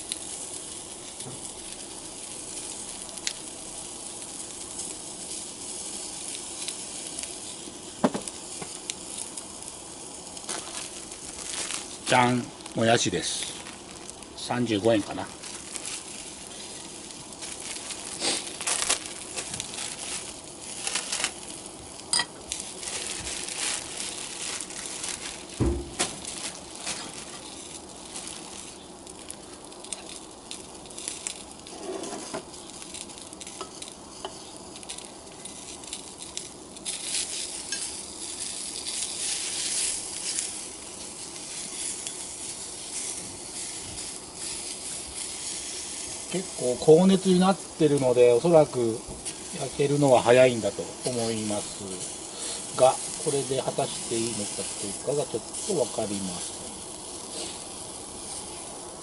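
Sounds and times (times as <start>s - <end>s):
food sizzling in a skillet: 0.0s - 59.0s.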